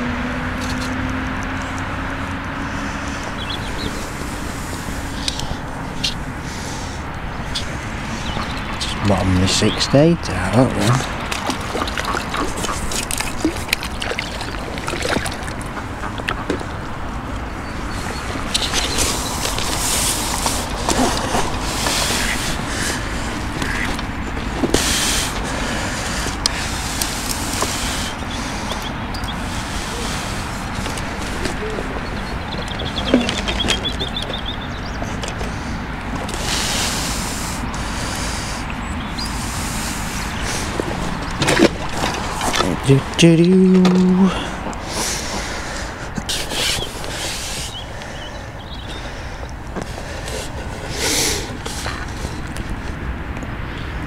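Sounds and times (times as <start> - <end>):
wind buffeting microphone: 0.0 - 43.3
low outdoor rumble: 0.0 - 54.0.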